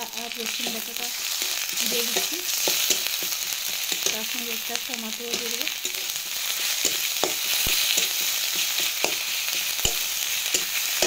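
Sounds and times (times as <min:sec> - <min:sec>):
food sizzling in hot oil: 0:00.0 - 0:11.0
spatula scraping and knocking pan: 0:00.5 - 0:04.4, 0:05.3 - 0:11.0.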